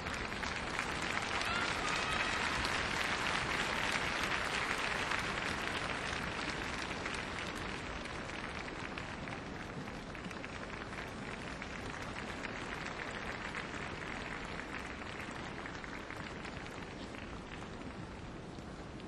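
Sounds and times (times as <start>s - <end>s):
crowd applauding: 0.0s - 18.2s.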